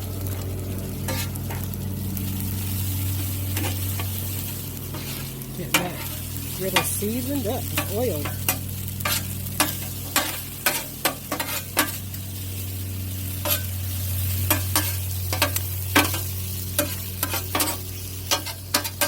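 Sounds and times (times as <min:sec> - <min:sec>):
food sizzling on griddle: 0:00.0 - 0:19.0.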